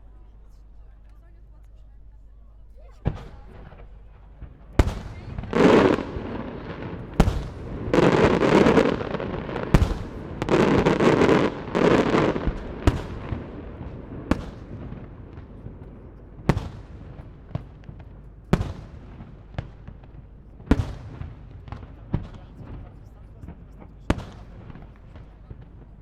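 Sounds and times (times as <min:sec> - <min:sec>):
fireworks crackling: 0:02.8 - 0:26.0
fireworks bangs with echo: 0:03.0 - 0:26.0.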